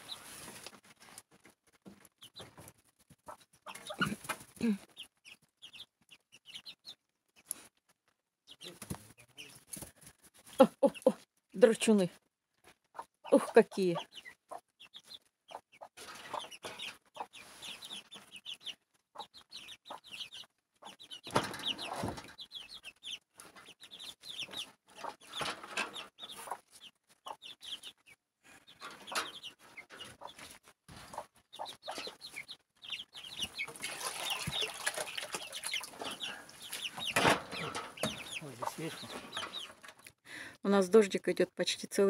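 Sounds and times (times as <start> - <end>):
chicks cheeping: 0.0 - 1.2, 2.0 - 7.7, 8.5 - 9.8, 12.8 - 40.6
hen clucking: 2.2 - 7.6, 10.6 - 41.0.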